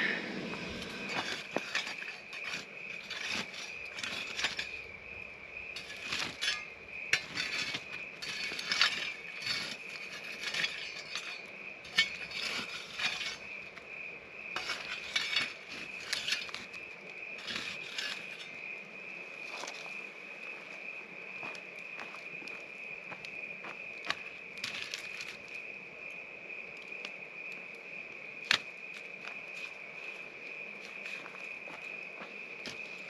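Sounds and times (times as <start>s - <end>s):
night insects chirping: 0.0s - 33.0s
campfire wood crackling and knocking: 0.3s - 13.9s, 14.5s - 18.8s, 21.4s - 25.7s, 28.4s - 33.0s.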